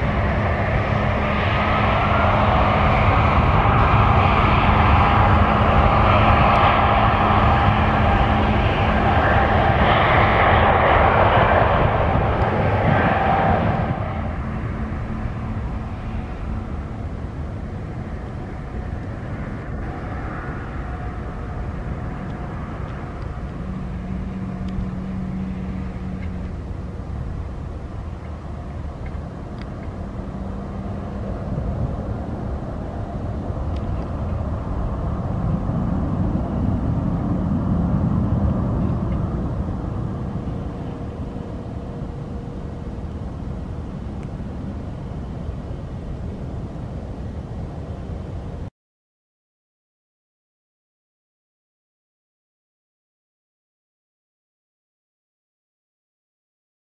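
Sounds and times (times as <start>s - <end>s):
jet engine at takeoff power: 0.0s - 48.7s.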